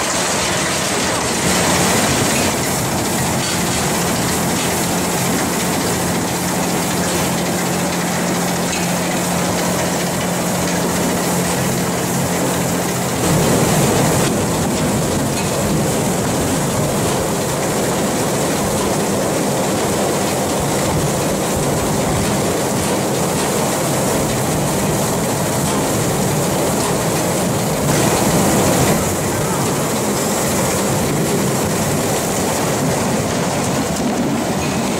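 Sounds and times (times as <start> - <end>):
conveyor machinery clattering: 0.0 - 34.9.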